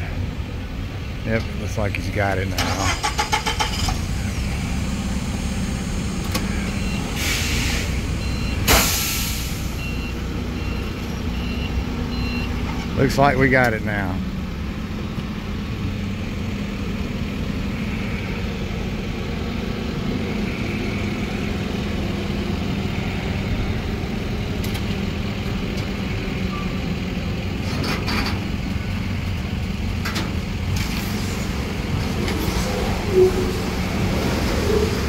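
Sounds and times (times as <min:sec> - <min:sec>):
forklift engines humming: 0:00.0 - 0:35.0.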